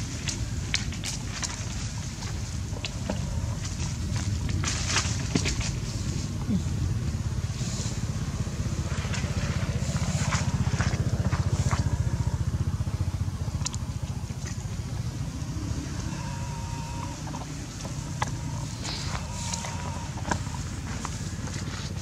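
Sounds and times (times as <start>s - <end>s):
engine running with pulsing rumble: 0.0s - 22.0s
rustles and crackles: 0.0s - 22.0s.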